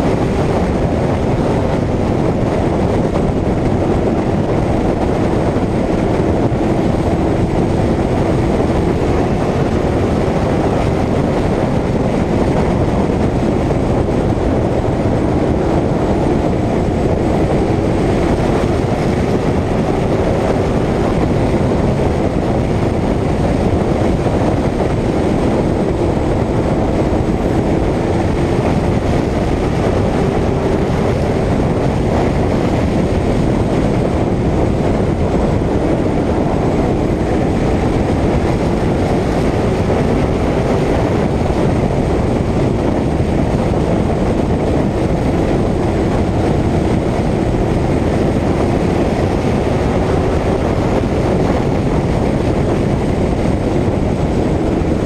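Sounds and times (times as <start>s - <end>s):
race car engine running hard: 0.0s - 55.0s
road noise: 0.0s - 55.0s
wind noise: 0.0s - 55.0s.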